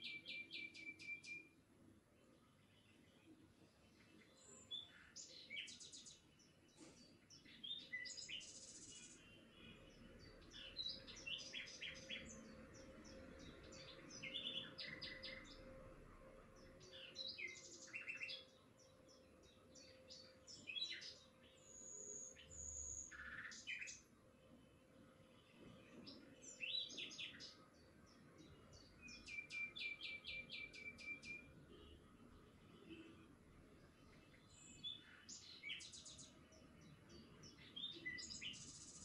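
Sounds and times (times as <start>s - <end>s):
small birds chirping: 0.0s - 15.8s, 16.6s - 39.0s.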